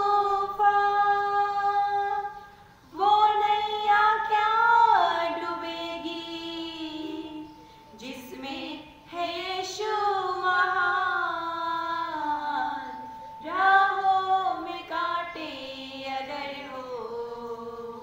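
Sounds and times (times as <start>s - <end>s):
women singing a prayer song: 0.0s - 18.0s.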